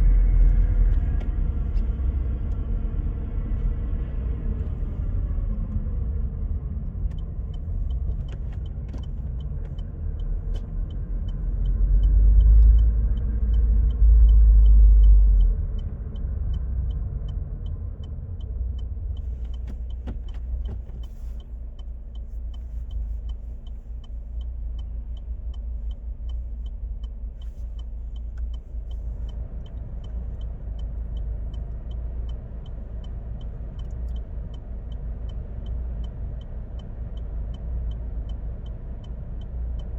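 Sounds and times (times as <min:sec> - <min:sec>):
car drivetrain and road rumble: 0:00.0 - 0:39.9
light even ticking: 0:05.2 - 0:39.9.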